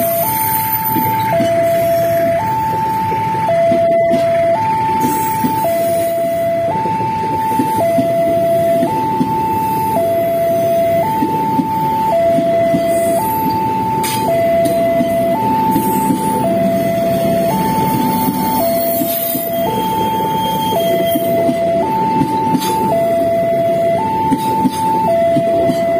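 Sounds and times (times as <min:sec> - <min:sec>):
level crossing two-tone alarm: 0:00.0 - 0:25.9.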